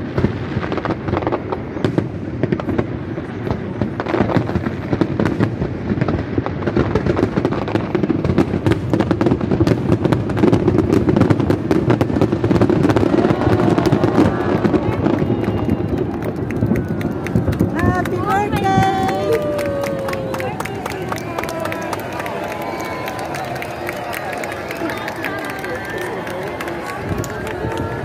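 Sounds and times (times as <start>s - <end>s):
fireworks crackling and popping: 0.0s - 28.0s.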